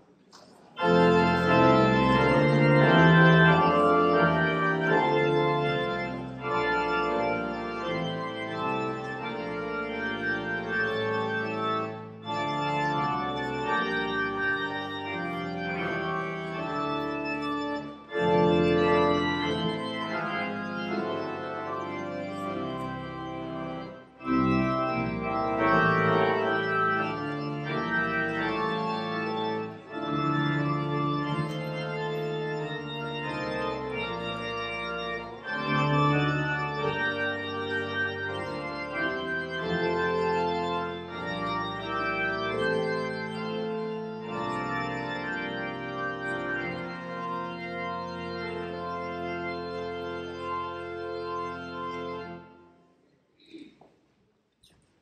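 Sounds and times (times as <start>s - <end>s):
organ chords: 0.3s - 53.6s.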